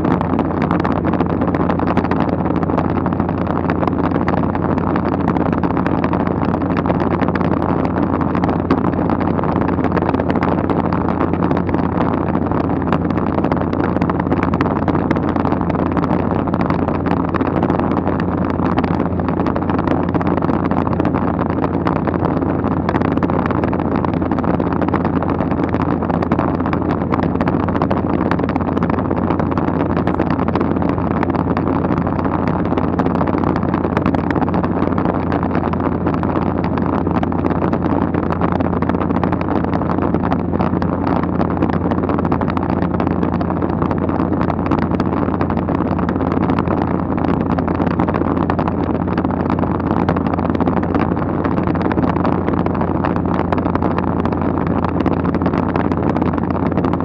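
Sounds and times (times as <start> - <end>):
wind rushing past window: 0.0 - 57.0.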